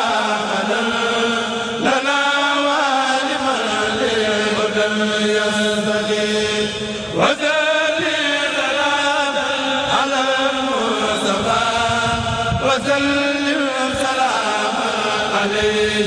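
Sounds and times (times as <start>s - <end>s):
men chanting through microphones: 0.0s - 16.0s.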